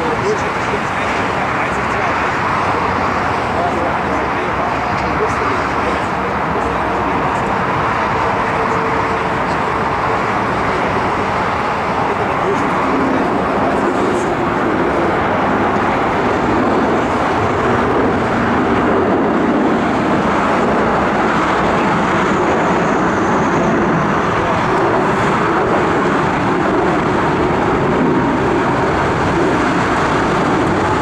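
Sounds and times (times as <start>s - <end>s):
jet airliner taking off: 0.0s - 31.0s.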